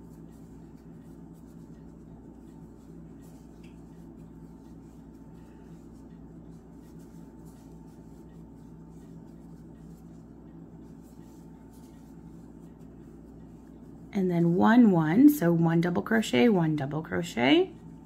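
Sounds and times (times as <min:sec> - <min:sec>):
yarn rustling with crochet hook: 0:00.0 - 0:16.2
low hum: 0:00.0 - 0:18.0.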